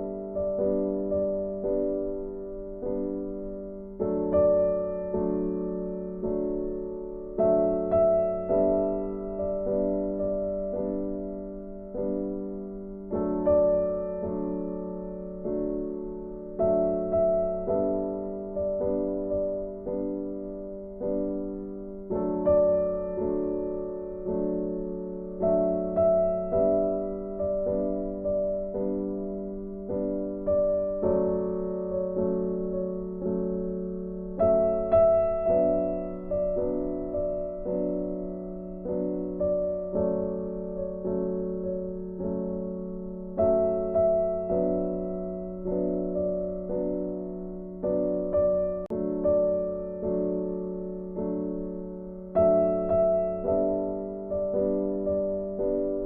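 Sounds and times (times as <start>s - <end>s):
gentle piano chords: 0.0s - 56.0s.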